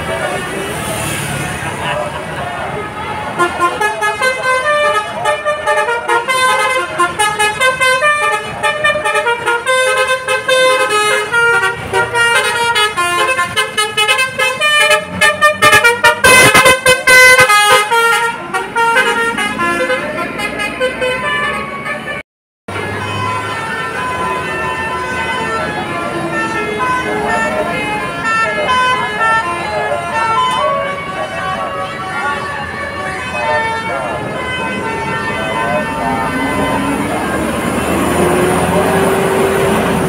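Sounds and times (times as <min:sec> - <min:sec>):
multi-tone bus horn melody: 0:00.0 - 0:40.0.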